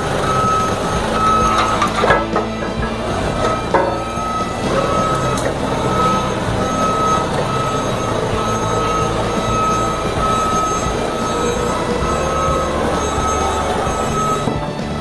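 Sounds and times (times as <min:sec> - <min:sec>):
forklift engine rumbling: 0:00.0 - 0:15.0
forklift reversing alarm beeping: 0:00.0 - 0:15.0.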